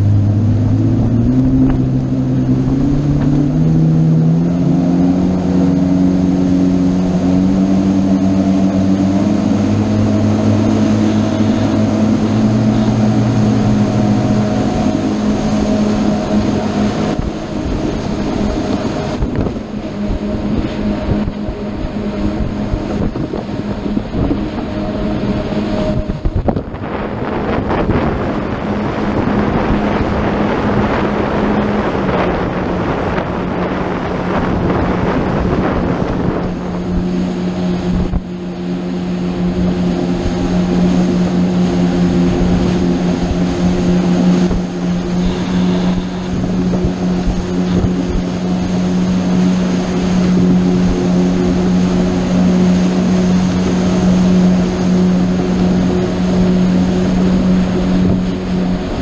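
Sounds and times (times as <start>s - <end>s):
motorboat engine running: 0.0s - 59.0s
water rushing: 0.0s - 59.0s
wind rushing: 0.0s - 59.0s.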